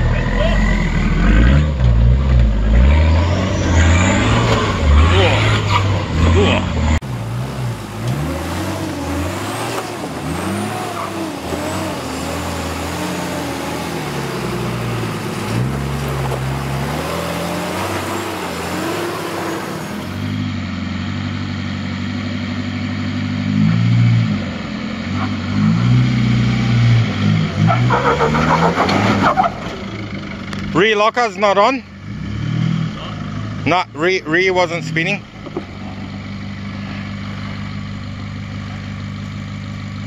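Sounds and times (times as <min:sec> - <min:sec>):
off-road engine revving: 0:00.0 - 0:40.0.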